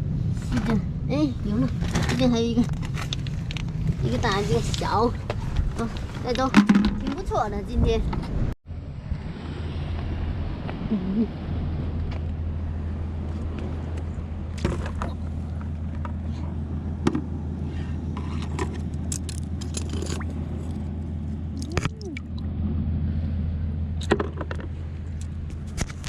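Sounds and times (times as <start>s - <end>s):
wind and surf rumble: 0.0s - 26.0s.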